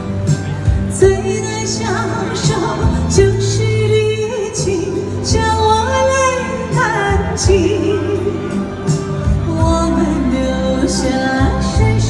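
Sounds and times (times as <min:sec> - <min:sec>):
instrumental accompaniment with beat: 0:00.0 - 0:12.0
woman singing a slow ballad: 0:00.6 - 0:12.0.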